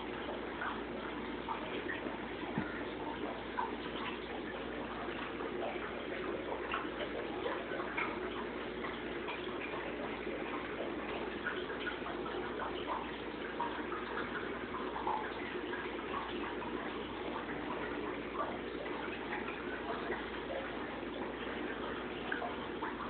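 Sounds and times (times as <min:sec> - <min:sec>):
aquarium water bubbling: 0:00.0 - 0:23.0.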